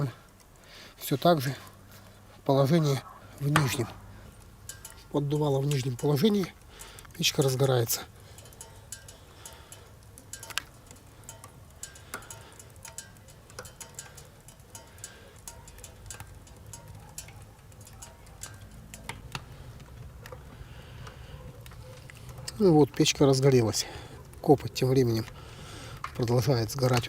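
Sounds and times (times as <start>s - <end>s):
firewood crackling and popping: 0.0s - 27.0s.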